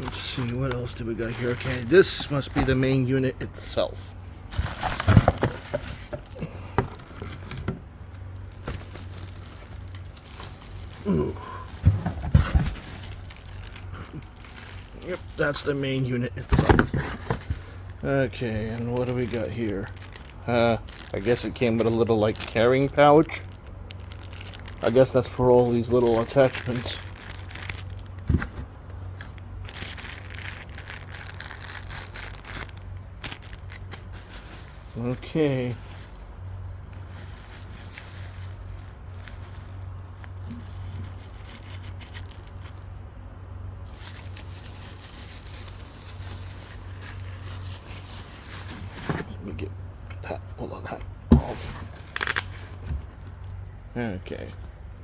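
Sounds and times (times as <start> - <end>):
plastic packaging crinkling: 0.0 - 43.1, 43.8 - 50.5, 51.3 - 53.7
faint steady hum: 0.0 - 55.0.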